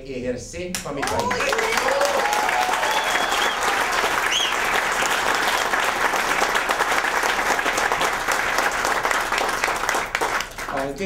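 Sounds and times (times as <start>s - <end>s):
crowd applauding: 1.0s - 11.0s.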